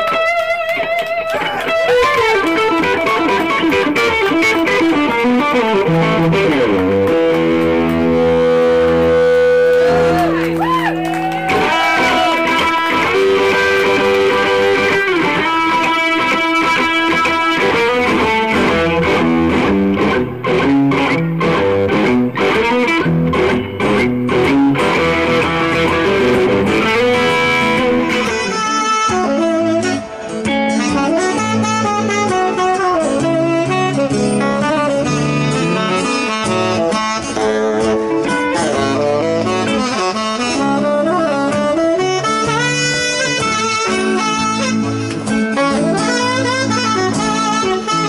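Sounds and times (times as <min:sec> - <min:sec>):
electric guitar lead lines: 0:00.0 - 0:48.0
saxophone: 0:00.0 - 0:48.0.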